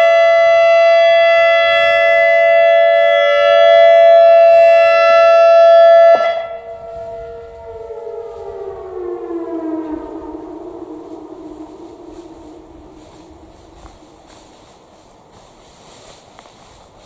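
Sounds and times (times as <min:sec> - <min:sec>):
electronic siren steady tone: 0:00.0 - 0:15.0
faint siren sliding down: 0:00.0 - 0:15.1.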